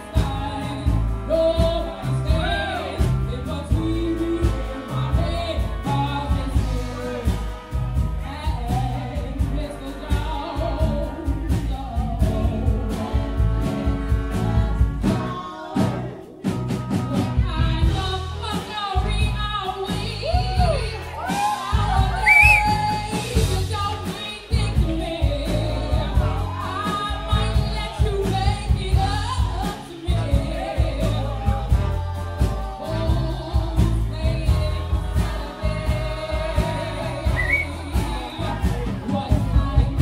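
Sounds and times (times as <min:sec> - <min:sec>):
band with bass and drums: 0:00.0 - 0:40.0
woman singing: 0:00.0 - 0:40.0.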